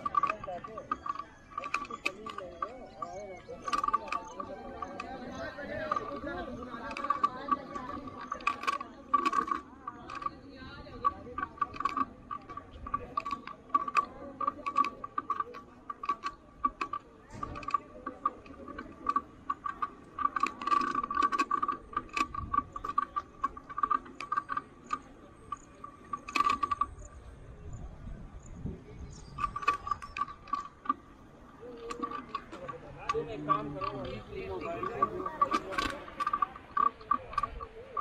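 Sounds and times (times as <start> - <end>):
bicycle clicking and rattling: 0.0 - 38.0.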